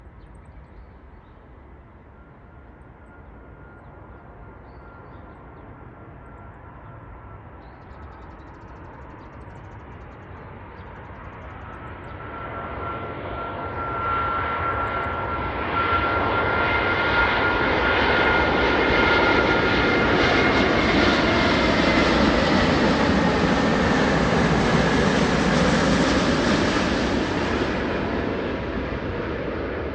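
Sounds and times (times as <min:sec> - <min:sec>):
jet engine roar with high whine: 0:00.0 - 0:29.9.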